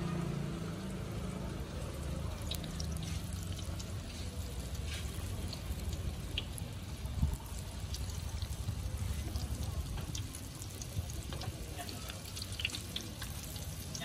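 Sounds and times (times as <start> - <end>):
dough sizzling in hot oil: 0.0 - 14.0
oil crackling and popping: 0.1 - 14.0.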